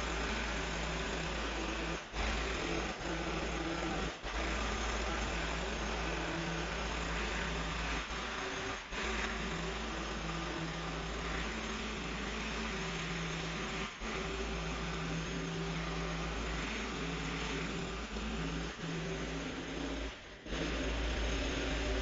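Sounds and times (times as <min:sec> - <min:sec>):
hedge trimmer cutting hedge: 0:00.0 - 0:22.0.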